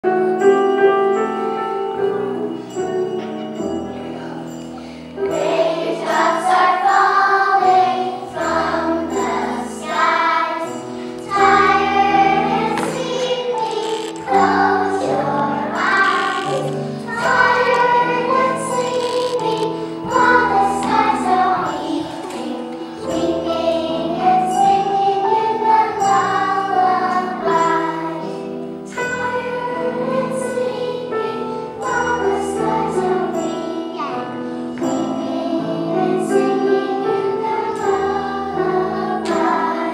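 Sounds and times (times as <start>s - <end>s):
children's choir singing: 0.1s - 39.9s.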